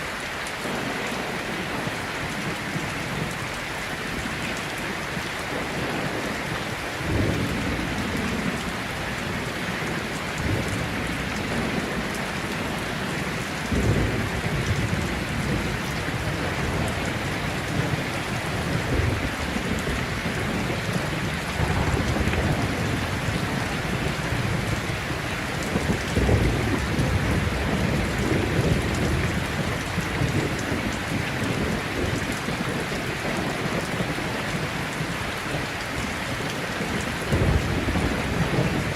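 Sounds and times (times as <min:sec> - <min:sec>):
heavy rain falling: 0:00.0 - 0:38.9
thunder rumbling: 0:00.6 - 0:36.1, 0:36.8 - 0:38.9.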